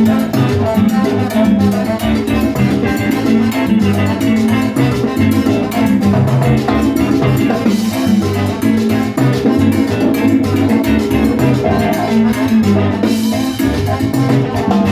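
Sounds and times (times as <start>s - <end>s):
salsa band playing: 0.0s - 14.9s.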